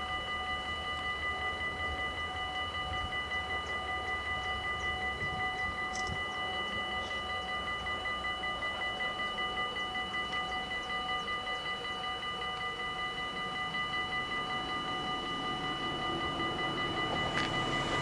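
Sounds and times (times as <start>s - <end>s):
level crossing warning bells: 0.0s - 18.0s.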